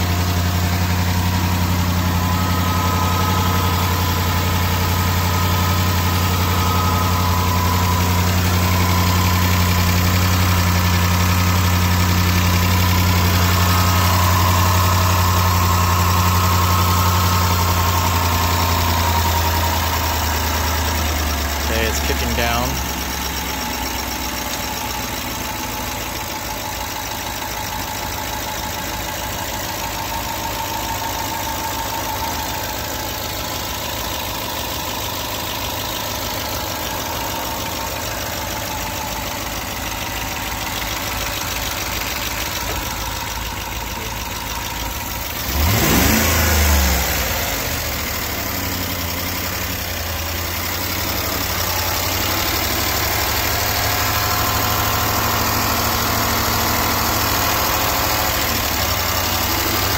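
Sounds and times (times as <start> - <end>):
car engine idling: 0.0 - 59.9
engine revving: 0.0 - 59.9
engine ticking: 0.0 - 59.9.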